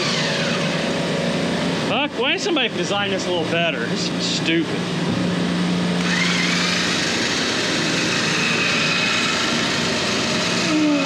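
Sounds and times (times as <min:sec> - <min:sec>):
electric hoist motor whining: 0:00.0 - 0:03.7, 0:05.7 - 0:11.0.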